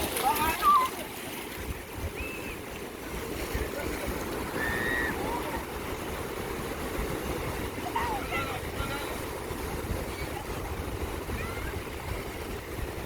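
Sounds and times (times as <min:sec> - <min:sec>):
sea surf washing: 0:00.0 - 0:13.0
wind on microphone: 0:01.5 - 0:13.0.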